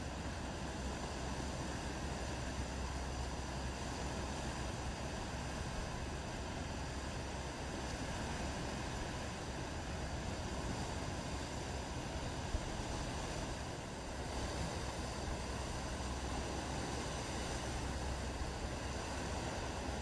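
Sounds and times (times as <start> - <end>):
sea: 0.0 - 20.0
wind: 0.0 - 20.0.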